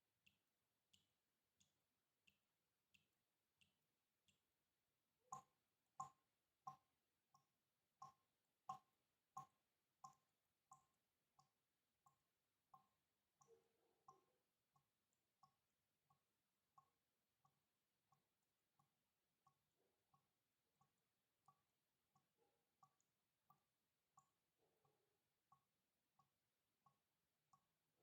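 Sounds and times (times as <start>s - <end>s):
water dripping plinks: 0.0s - 28.0s.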